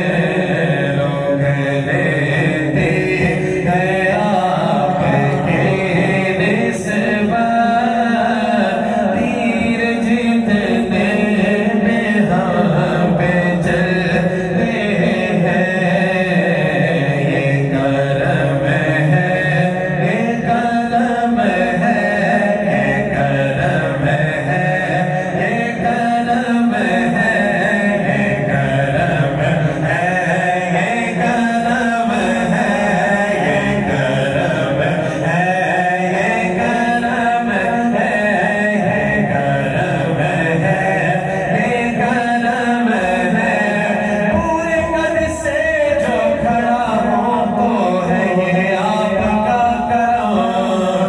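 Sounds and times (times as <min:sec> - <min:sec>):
man singing into a microphone: 0:00.0 - 0:51.0.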